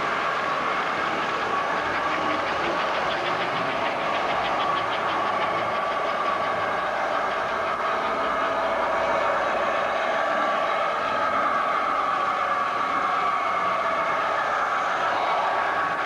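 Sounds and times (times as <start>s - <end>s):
model train electric whirring: 0.0s - 16.0s.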